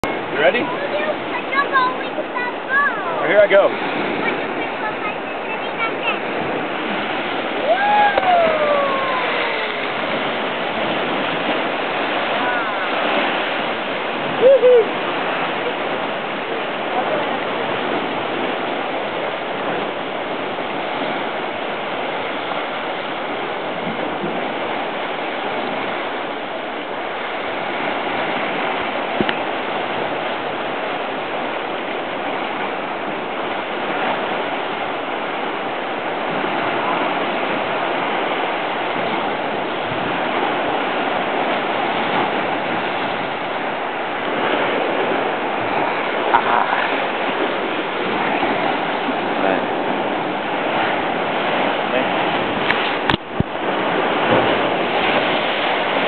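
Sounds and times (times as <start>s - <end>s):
waves splashing on rocks: 0.0s - 56.0s.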